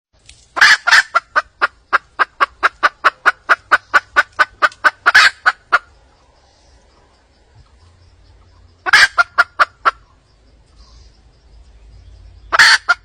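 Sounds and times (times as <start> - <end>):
hen clucking: 0.6 - 11.2, 12.4 - 13.0.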